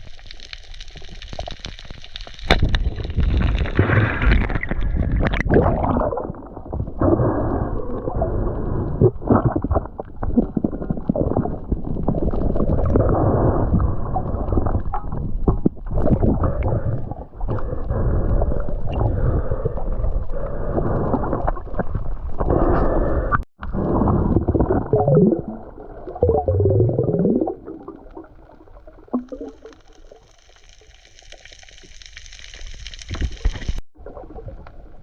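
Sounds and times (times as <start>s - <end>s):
muffled underwater rushing water: 0.0s - 35.0s.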